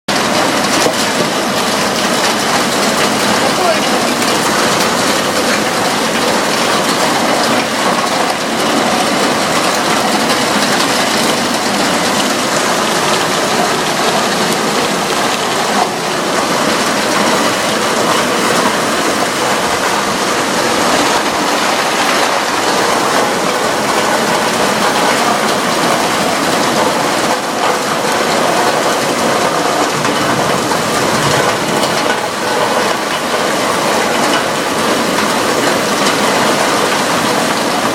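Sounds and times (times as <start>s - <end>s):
heavy rain on hard surfaces: 0.1s - 37.9s.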